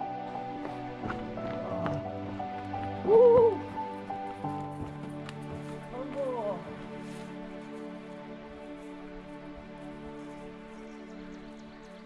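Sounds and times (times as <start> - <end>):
background music sustained notes: 0.0 - 12.0.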